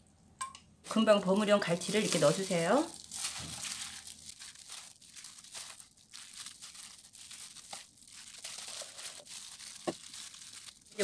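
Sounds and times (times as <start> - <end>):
plastic glove crinkling: 0.8 - 11.0.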